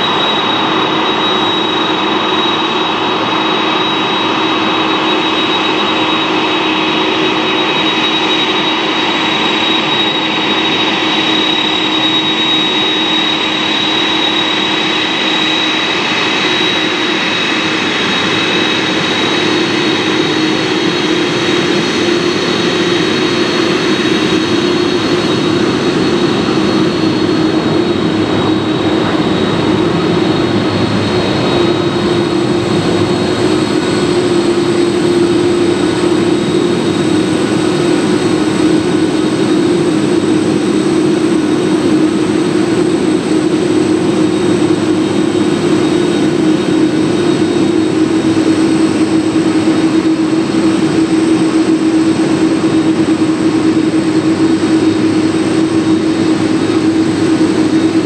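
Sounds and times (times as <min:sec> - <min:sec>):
jet engines humming with high whine: 0:00.0 - 0:58.0.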